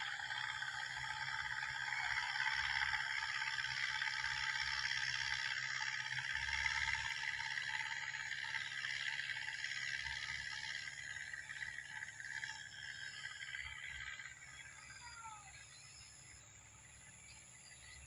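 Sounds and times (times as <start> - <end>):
distant tractor engine: 0.0 - 18.0.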